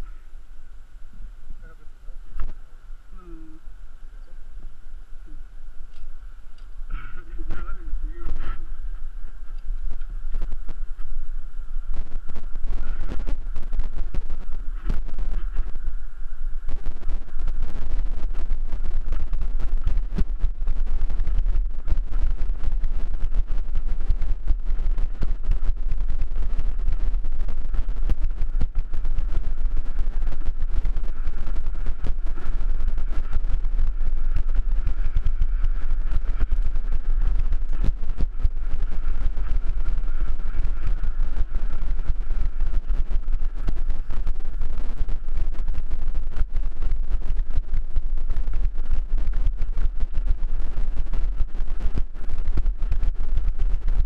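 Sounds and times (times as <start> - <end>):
faint high hum: 0.0 - 54.0.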